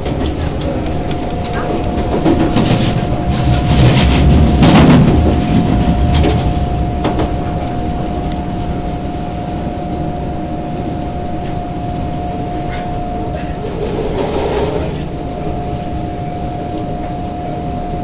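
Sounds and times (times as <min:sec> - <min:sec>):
constant train hum: 0:00.0 - 0:18.0
train wheels rumbling on rail: 0:00.0 - 0:18.0.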